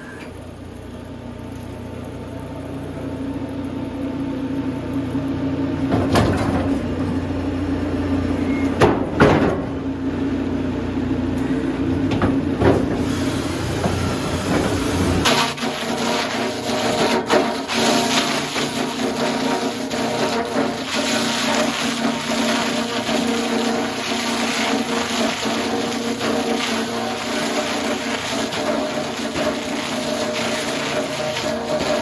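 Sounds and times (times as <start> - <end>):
sawmill machinery humming: 0.0 - 32.0.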